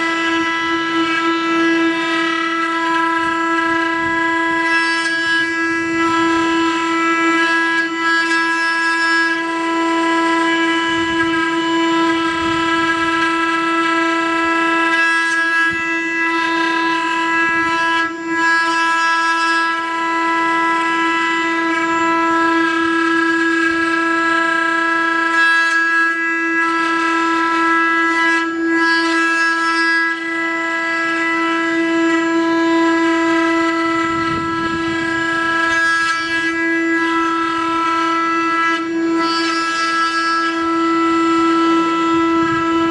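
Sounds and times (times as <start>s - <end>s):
wood router spindles whining: 0.0s - 42.9s.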